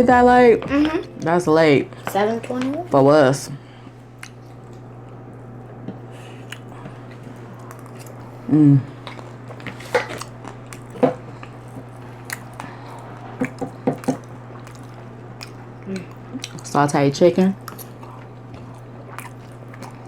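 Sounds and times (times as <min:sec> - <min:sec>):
low hum: 0:00.0 - 0:16.7
close-miked eating and chewing: 0:03.8 - 0:20.0.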